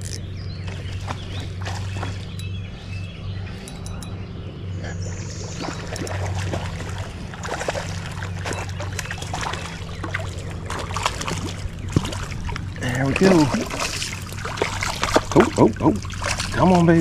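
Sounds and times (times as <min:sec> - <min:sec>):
water splashing: 0:00.0 - 0:02.4, 0:05.4 - 0:17.0
steady low rumble: 0:00.0 - 0:17.0.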